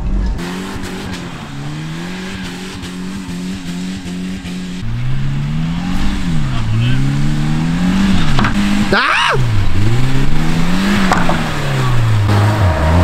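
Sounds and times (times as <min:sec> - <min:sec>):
small petrol engine revving hard: 0:00.4 - 0:13.0.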